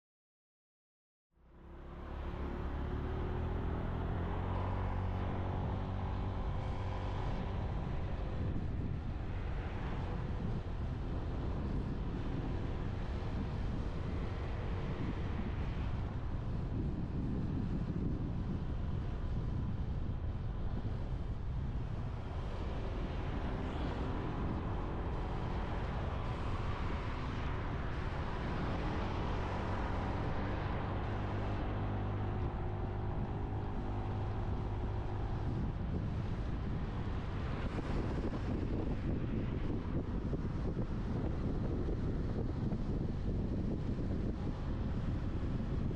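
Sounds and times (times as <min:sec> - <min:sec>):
wind noise on microphone: 0:02.0 - 0:45.9.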